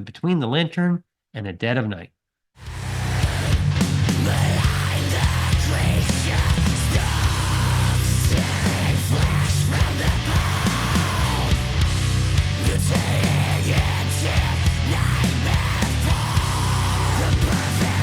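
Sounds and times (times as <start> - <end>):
heavy distorted metal band: 2.6 - 18.0
rapid drum hits: 2.7 - 18.0.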